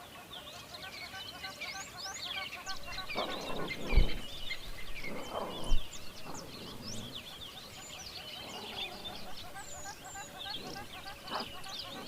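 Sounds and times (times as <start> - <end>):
low bird calls: 0.0 - 12.0
small birds chirping: 0.0 - 12.0.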